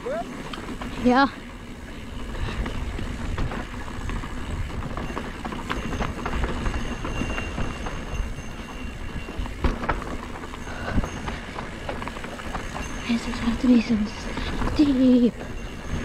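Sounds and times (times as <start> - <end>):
wind rumbling on microphone: 0.0 - 16.0
bike frame and chain clatter: 0.1 - 16.0.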